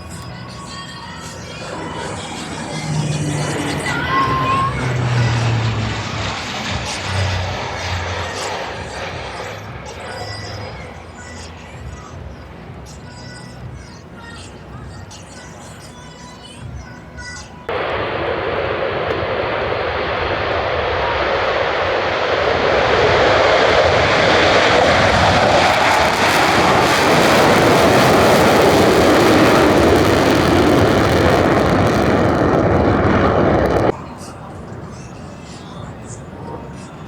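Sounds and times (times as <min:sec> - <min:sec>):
aircraft engine roar overhead: 0:00.0 - 0:37.0.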